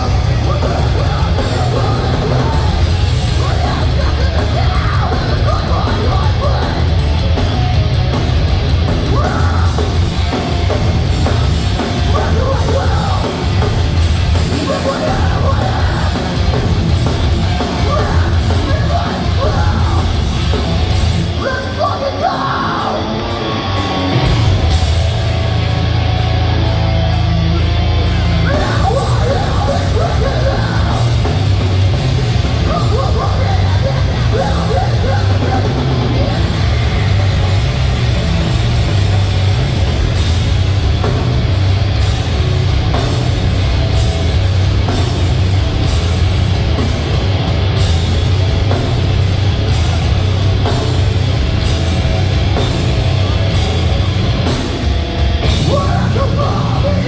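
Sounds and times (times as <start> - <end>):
bass guitar: 0.0 - 57.0
distorted guitars: 0.0 - 57.0
drum kit: 0.0 - 57.0.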